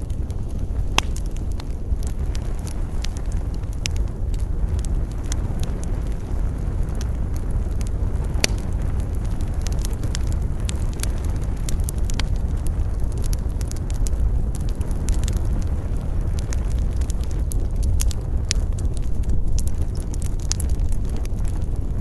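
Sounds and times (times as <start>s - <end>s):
campfire crackling and popping: 0.0s - 22.0s
low rumble of wind: 0.0s - 22.0s.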